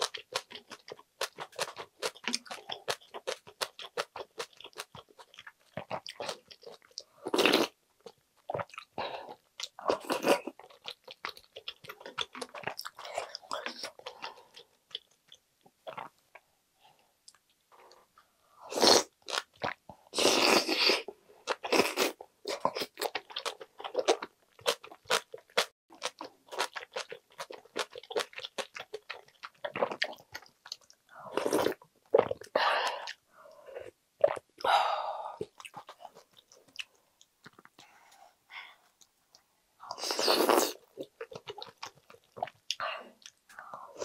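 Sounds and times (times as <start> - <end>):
person chewing and crunching food: 0.0 - 16.4, 17.2 - 33.2, 33.8 - 34.7, 35.3 - 37.9, 38.8 - 44.0.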